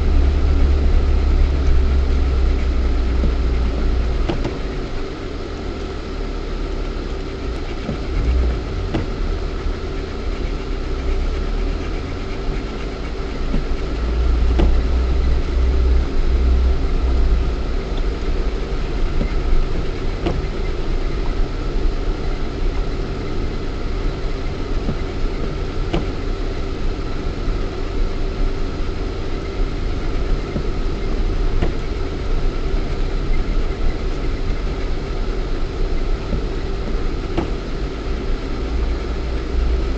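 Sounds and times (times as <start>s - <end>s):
car engine running from inside cabin: 0.0s - 39.9s.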